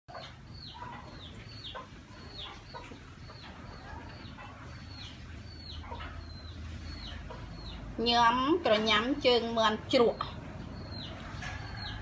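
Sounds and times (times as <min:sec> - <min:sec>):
chicks peeping: 0:00.1 - 0:12.0.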